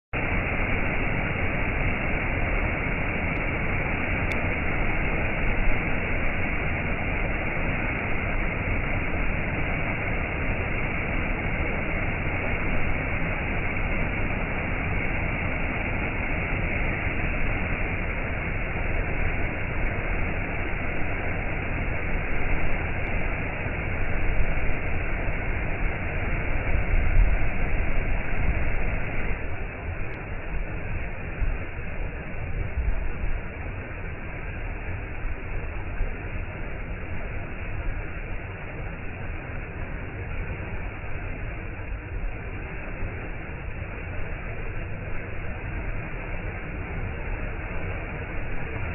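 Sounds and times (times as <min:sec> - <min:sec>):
running water rushing: 0:00.2 - 0:48.9.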